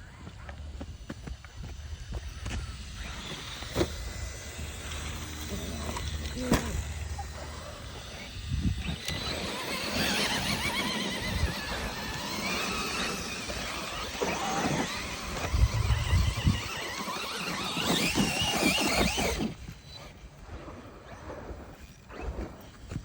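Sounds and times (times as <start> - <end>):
rc truck motors whining: 0.0 - 23.0
wind rumbling on microphone: 0.0 - 23.0.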